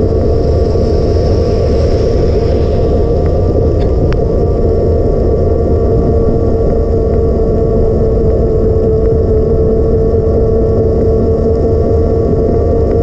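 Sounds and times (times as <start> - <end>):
wind rushing: 0.0 - 11.2
wet road noise: 0.0 - 11.7
constant hum: 0.0 - 13.0.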